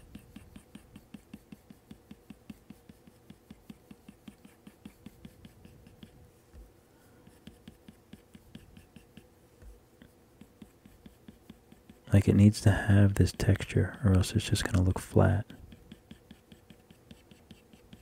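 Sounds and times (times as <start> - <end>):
stylus tapping on tablet screen: 0.0 - 12.1, 14.7 - 18.0.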